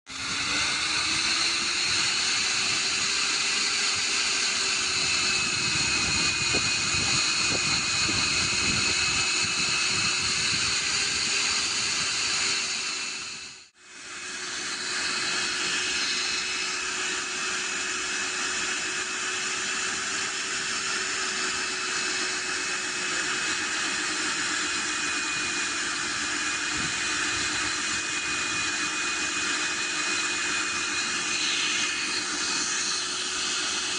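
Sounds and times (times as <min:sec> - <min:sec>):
core drill whining into concrete: 0:00.1 - 0:33.9.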